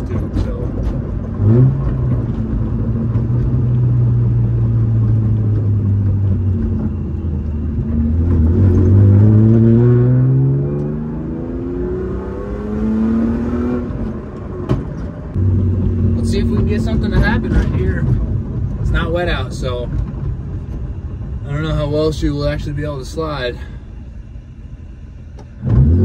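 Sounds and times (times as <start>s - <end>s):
car engine through straight-pipe exhaust: 0.0s - 26.0s.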